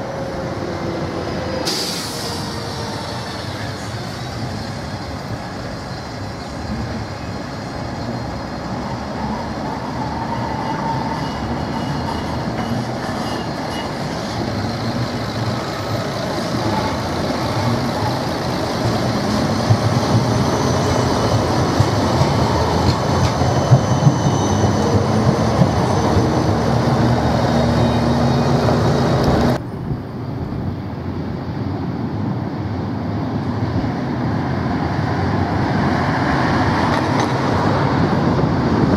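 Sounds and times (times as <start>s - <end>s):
street noise: 0.0s - 38.9s
tram hum: 0.0s - 38.9s
tram wheels on rails: 0.0s - 38.9s.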